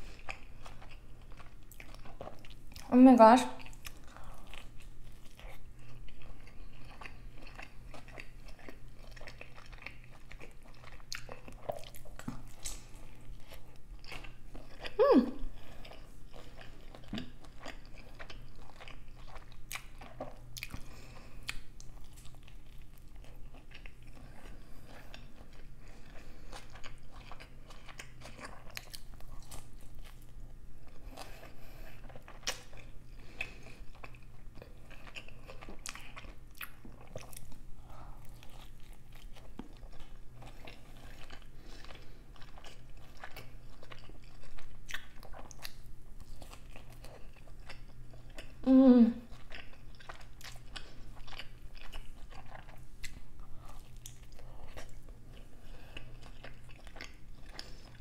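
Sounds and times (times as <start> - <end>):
chewing pizza crust: 0.0 - 58.0.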